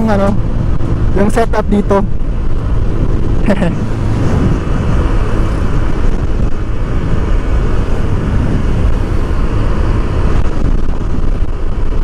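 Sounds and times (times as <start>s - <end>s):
scooter engine hum: 0.0s - 12.0s
wind on microphone: 0.0s - 12.0s.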